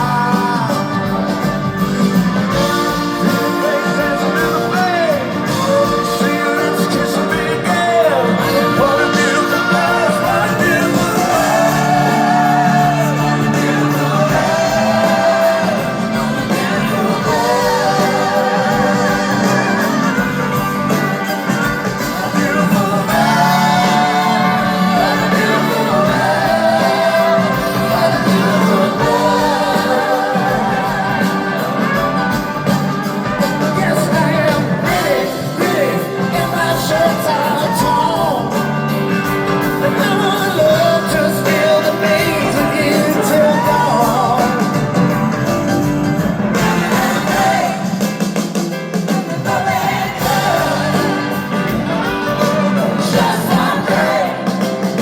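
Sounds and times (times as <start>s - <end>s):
person singing: 0.0s - 45.2s
bass guitar: 0.0s - 55.0s
drums: 0.0s - 55.0s
electric guitar: 0.0s - 55.0s.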